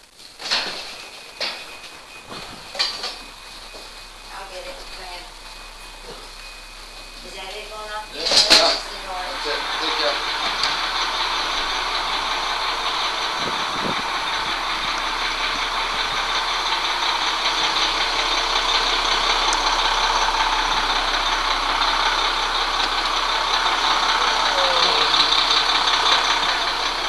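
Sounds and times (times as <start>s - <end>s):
fire engine idling: 0.0s - 27.0s.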